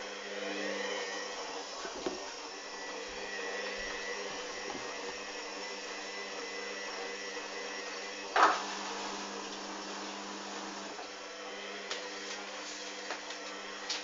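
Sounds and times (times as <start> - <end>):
washing machine motor whir: 0.0 - 14.0.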